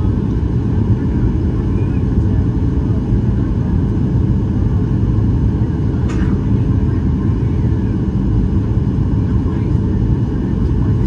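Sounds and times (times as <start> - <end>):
aircraft engines and airflow rumble: 0.0 - 11.0.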